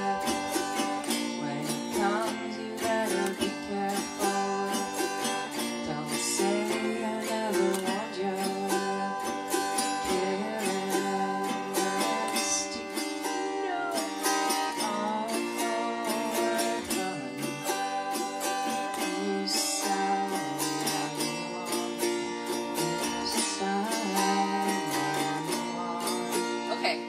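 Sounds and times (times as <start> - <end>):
autoharp strummed: 0.0 - 27.0.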